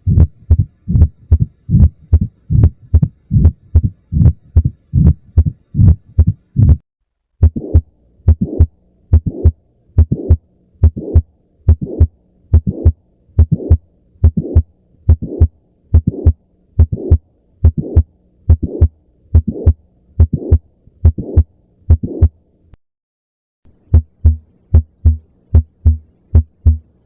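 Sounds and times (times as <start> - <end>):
heartbeat through stethoscope: 0.0 - 6.8, 7.4 - 22.4, 23.9 - 26.9.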